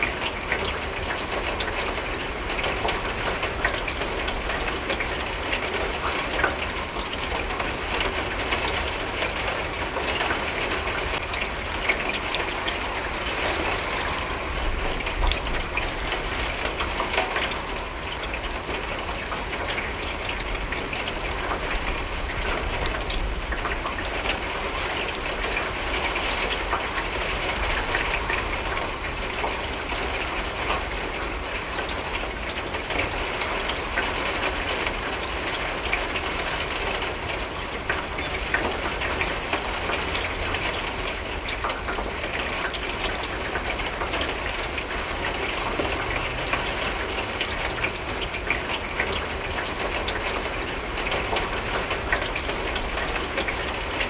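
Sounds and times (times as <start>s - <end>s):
rain on a window: 0.0s - 54.0s.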